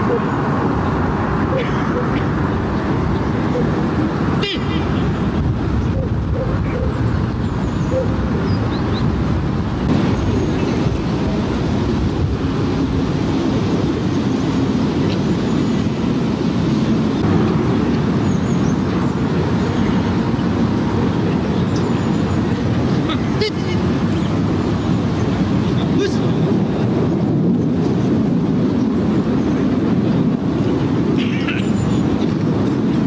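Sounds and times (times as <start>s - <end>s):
steady low rumbling: 0.0s - 33.0s.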